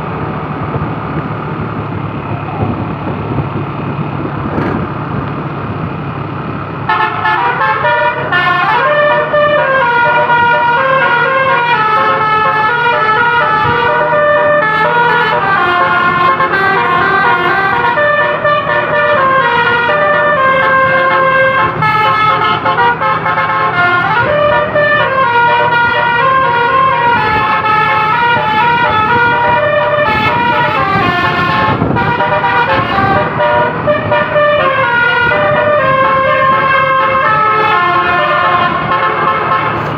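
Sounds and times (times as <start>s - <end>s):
engine running: 0.0s - 39.9s
bus horn playing melody: 6.8s - 39.9s.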